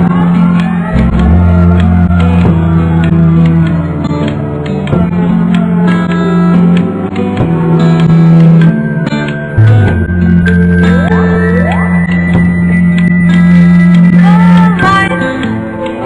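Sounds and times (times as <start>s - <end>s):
guitar and bass music: 0.0s - 16.0s.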